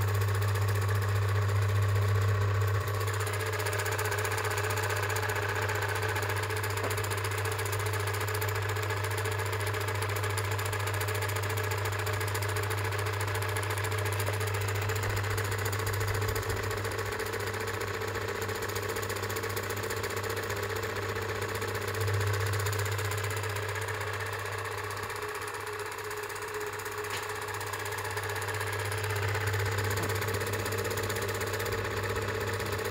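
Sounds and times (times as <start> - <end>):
film projector running: 0.0 - 32.9.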